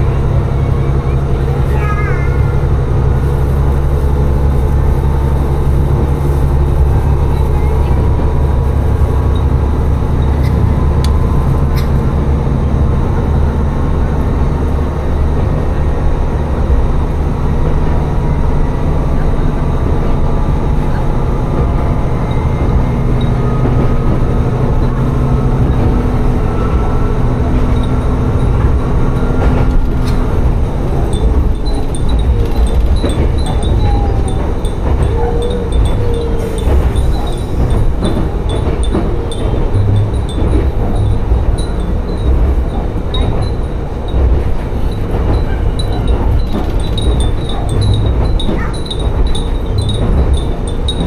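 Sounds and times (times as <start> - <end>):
rail and wheel noise: 0.0 - 51.0
railcar engine drone: 0.0 - 51.0.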